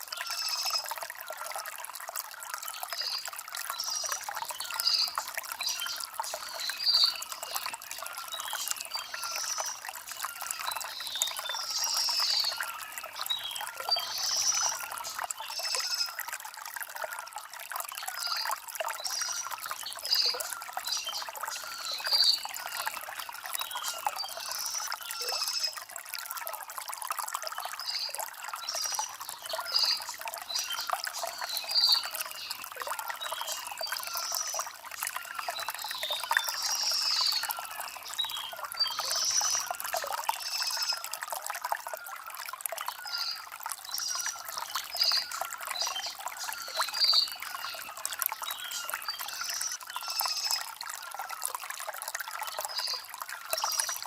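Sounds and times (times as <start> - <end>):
stream water trickling over stones: 0.0 - 54.0.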